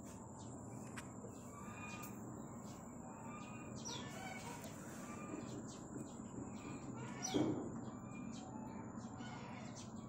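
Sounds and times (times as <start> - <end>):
bird chirps: 1.3 - 10.0.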